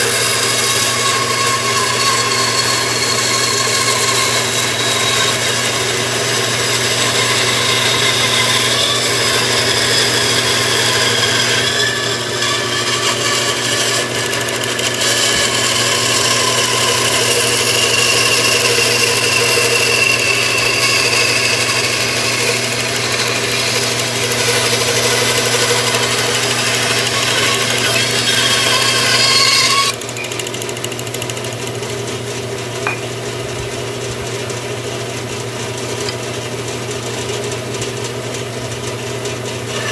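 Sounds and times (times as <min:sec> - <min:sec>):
bandsaw cutting wood: 0:00.0 - 0:31.8, 0:39.7 - 0:39.9.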